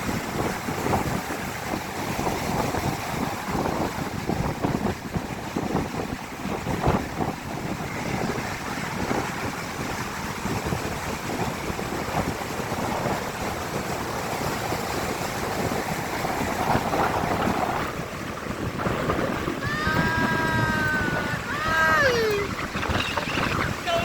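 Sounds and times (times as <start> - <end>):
ocean waves breaking: 0.0 - 24.0
wind buffeting microphone: 0.0 - 24.0.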